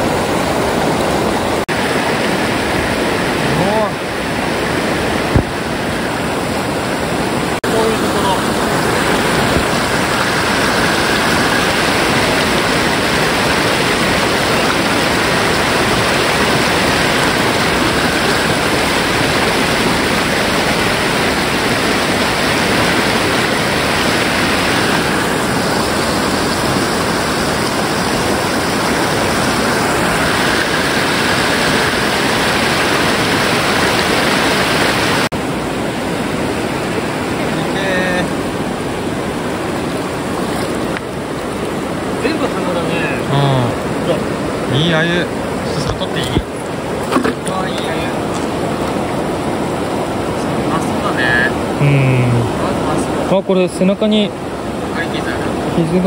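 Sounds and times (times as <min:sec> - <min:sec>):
fast-flowing river water rushing: 0:00.0 - 0:56.0.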